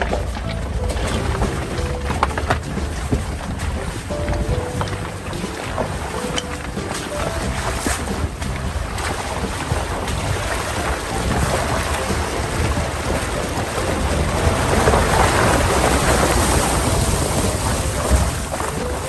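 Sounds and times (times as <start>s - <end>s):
low rumble: 0.0s - 19.0s
stream water splashing and rushing: 0.0s - 19.0s.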